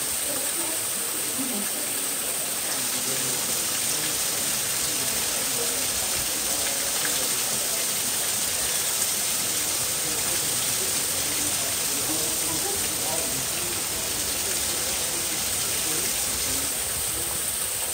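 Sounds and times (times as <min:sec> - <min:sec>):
faint voices murmuring: 0:00.0 - 0:17.9
rushing water: 0:00.0 - 0:17.9.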